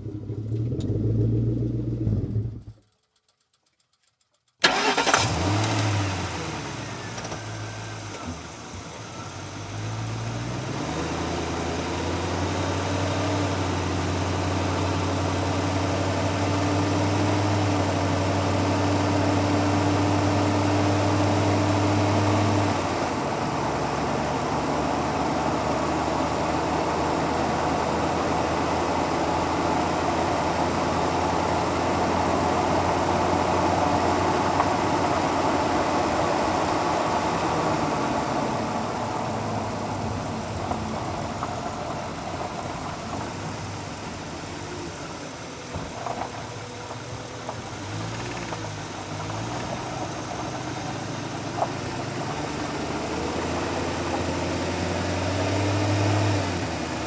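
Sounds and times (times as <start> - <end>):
car engine idling: 3.6 - 57.0.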